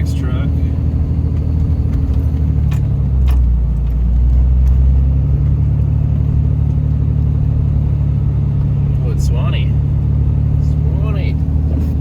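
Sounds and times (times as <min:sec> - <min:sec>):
diesel engine under load: 0:00.0 - 0:12.0.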